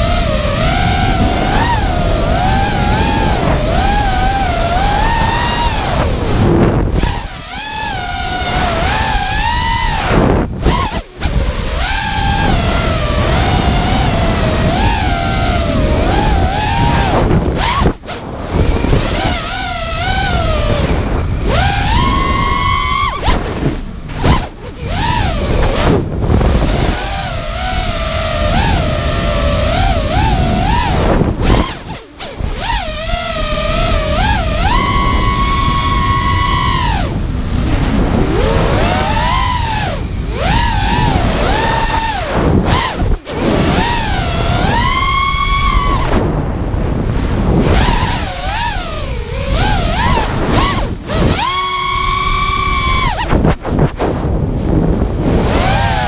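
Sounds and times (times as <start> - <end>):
drone motors whining: 0.0 - 56.0
wind noise: 0.0 - 56.0.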